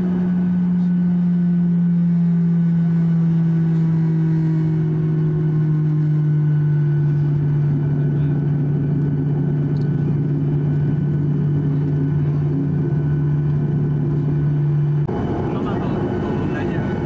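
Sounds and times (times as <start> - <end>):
jet cabin engine drone: 0.0 - 17.0.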